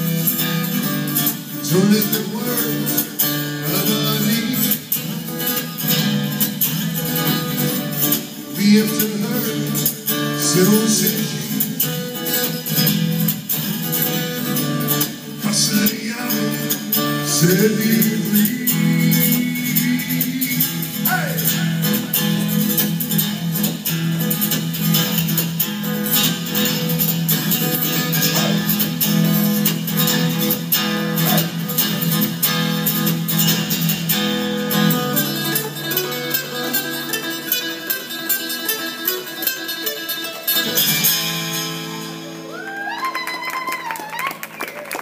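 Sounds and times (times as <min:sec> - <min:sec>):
guitar strummed quickly: 0:00.0 - 0:44.2.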